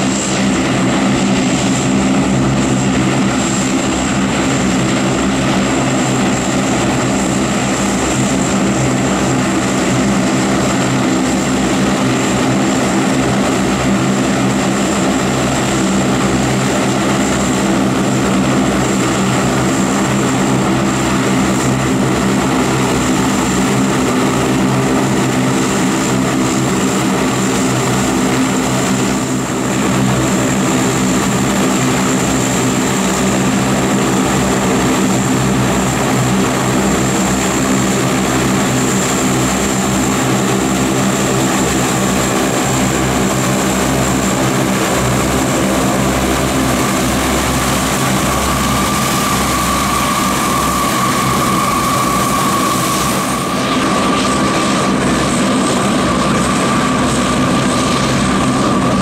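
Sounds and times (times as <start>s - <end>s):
high turbine whine: 0.0s - 59.0s
propeller drone: 0.0s - 59.0s.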